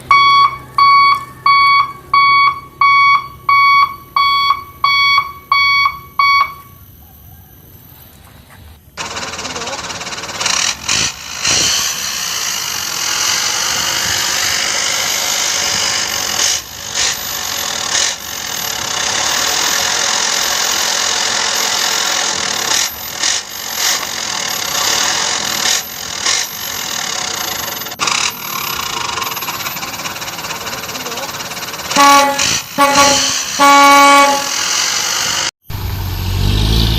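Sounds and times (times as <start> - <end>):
truck engine under load: 0.0 - 7.0, 7.6 - 36.9.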